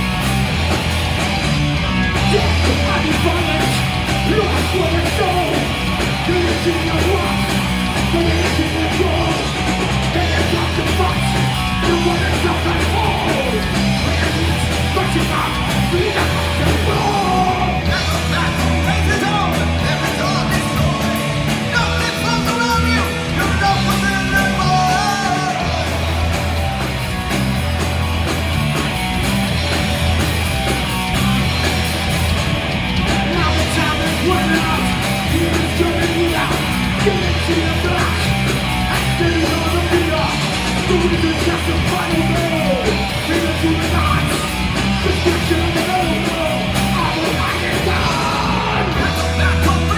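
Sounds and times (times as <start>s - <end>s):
heavy metal band playing: 0.0s - 49.9s.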